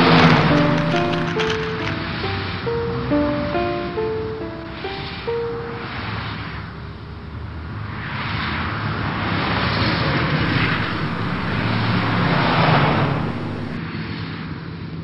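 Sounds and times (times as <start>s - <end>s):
road traffic passing: 0.0s - 13.8s.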